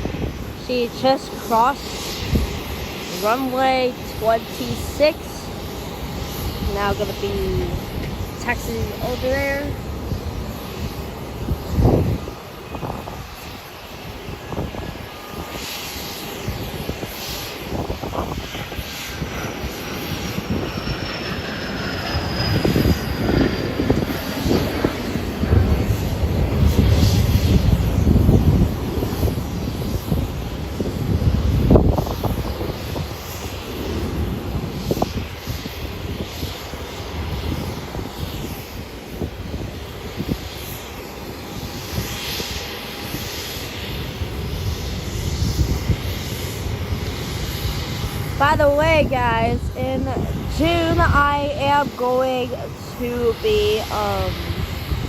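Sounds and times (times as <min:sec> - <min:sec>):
jet engines taxiing: 0:00.0 - 0:55.0.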